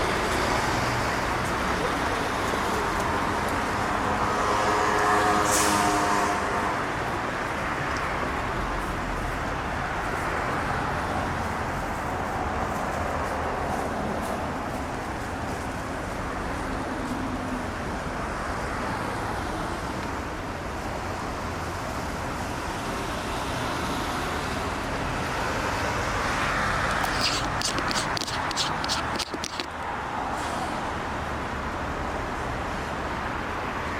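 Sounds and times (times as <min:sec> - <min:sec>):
passing cars: 0:00.0 - 0:33.9.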